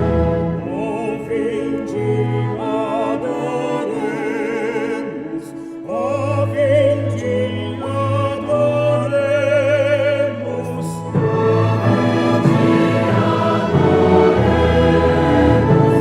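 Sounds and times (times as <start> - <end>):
orchestral accompaniment: 0.0 - 16.0.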